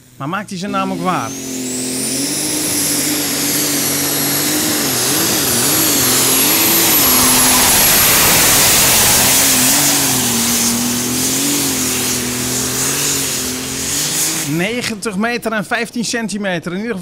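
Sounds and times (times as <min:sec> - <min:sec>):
high whine: 0:00.0 - 0:15.0
pulling tractor engine under load: 0:00.8 - 0:15.0.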